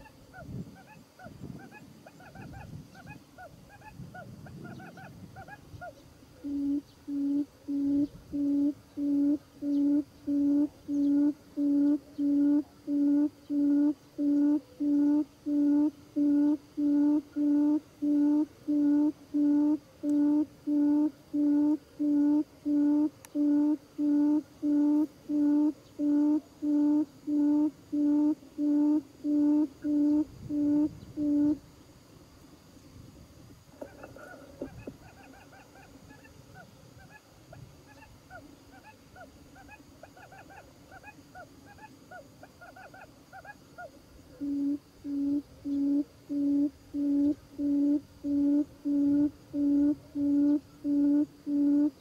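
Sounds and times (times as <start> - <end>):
low hooting bird call: 0.0 - 31.6, 33.8 - 52.0.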